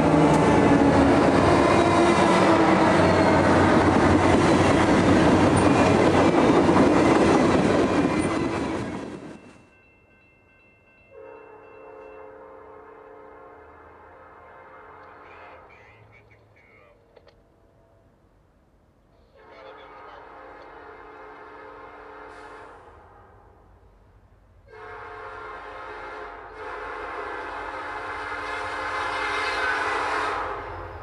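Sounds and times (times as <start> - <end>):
distant train approaching: 0.0 - 31.0
freight train passing: 0.0 - 31.0.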